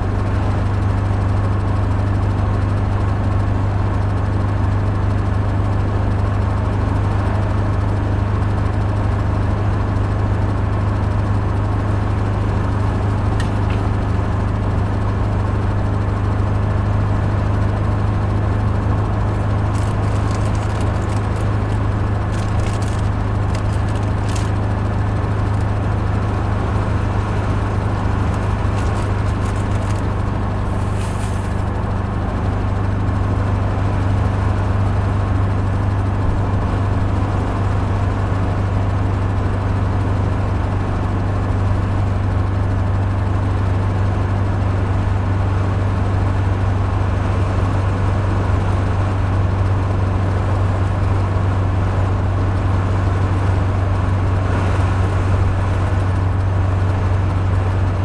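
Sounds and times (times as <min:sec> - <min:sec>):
car engine drone: 0:00.0 - 0:58.0
road noise: 0:00.0 - 0:58.0.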